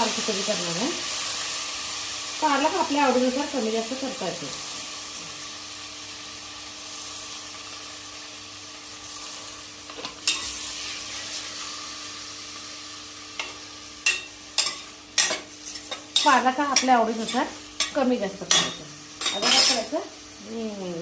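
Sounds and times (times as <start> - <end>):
spinach sizzling in hot oil: 0.0 - 21.0.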